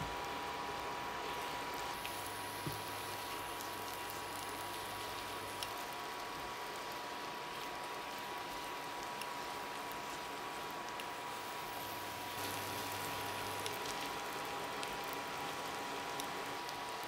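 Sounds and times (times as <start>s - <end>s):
potatoes sizzling in a pan: 0.1s - 17.0s.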